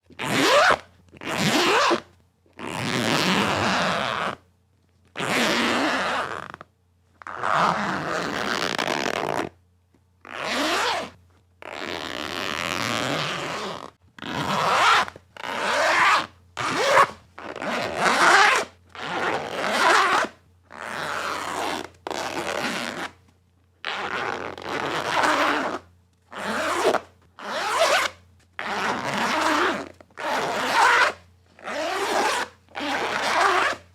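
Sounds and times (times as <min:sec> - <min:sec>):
zipper being zipped: 0:00.1 - 0:04.4, 0:05.2 - 0:09.6, 0:10.2 - 0:23.2, 0:23.8 - 0:33.9.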